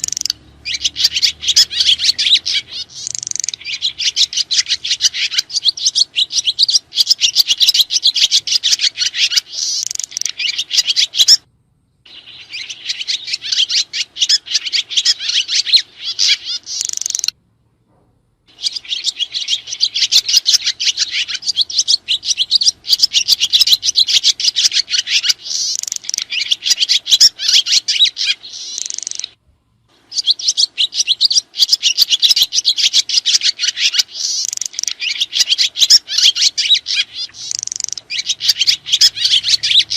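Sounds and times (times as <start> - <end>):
swiftlets twittering: 0.0 - 11.4, 12.1 - 17.3, 18.6 - 29.4, 30.1 - 39.9.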